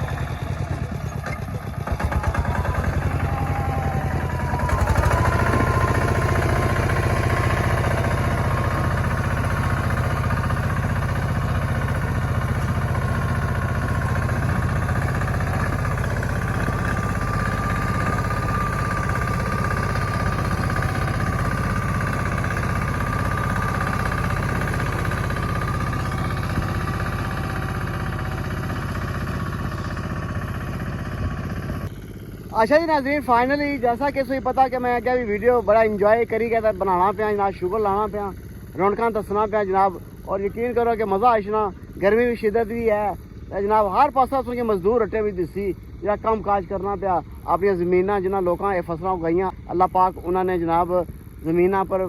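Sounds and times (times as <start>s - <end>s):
diesel engine running with whine: 0.0s - 52.0s.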